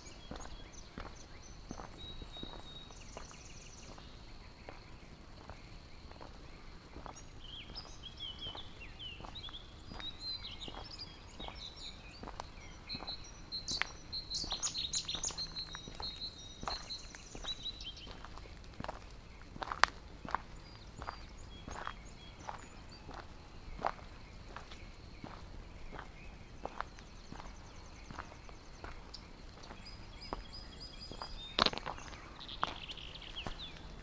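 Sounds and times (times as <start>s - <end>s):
footsteps on gravel: 0.0s - 34.0s
small birds chirping: 0.0s - 34.0s.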